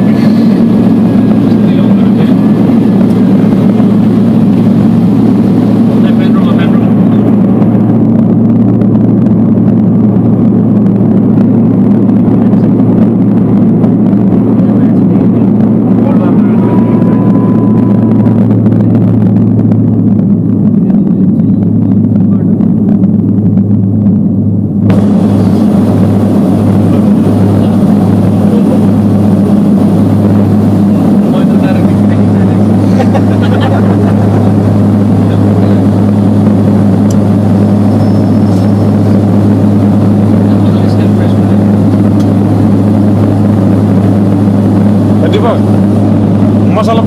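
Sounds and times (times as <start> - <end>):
turboprop engines droning in cabin: 0.0 - 47.0.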